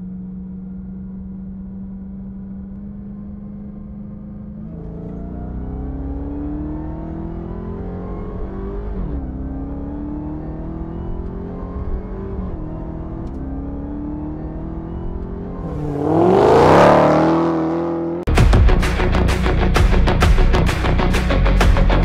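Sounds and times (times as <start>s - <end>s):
car engine accelerating: 0.0s - 18.4s.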